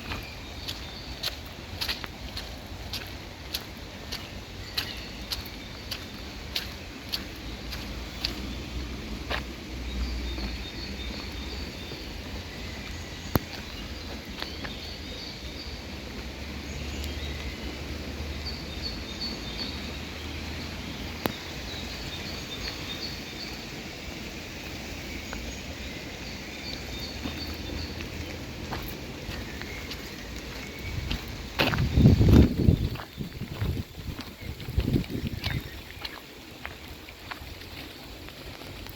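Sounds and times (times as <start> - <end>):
rain hiss: 0.0 - 38.9.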